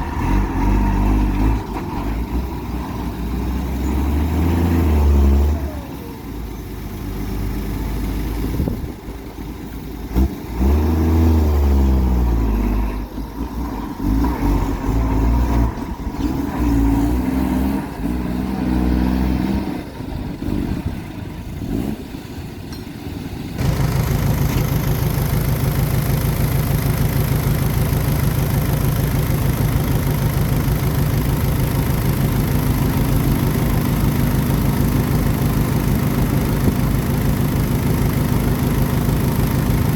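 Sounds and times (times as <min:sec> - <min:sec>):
heavy machinery engine under load: 0:00.0 - 0:39.9.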